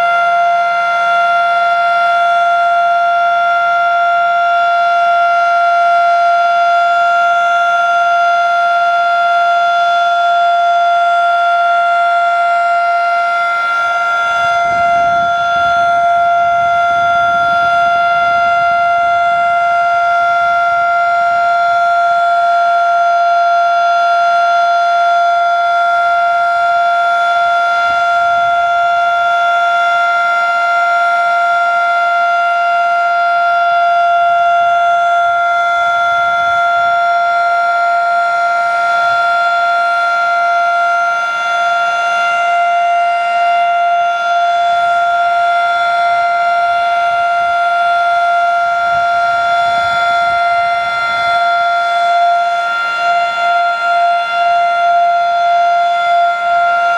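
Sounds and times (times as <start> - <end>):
warning siren steady tone: 0.0 - 56.9.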